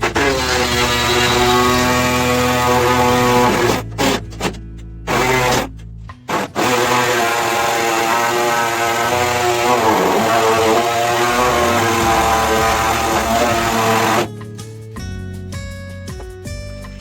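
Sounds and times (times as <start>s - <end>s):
power tool motor whine: 0.0s - 5.7s, 6.3s - 14.3s.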